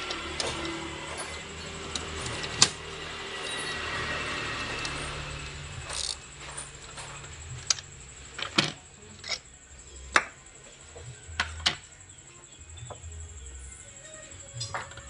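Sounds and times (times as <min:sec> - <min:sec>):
hand tools clicking and knocking: 0:00.0 - 0:11.9, 0:14.5 - 0:15.0.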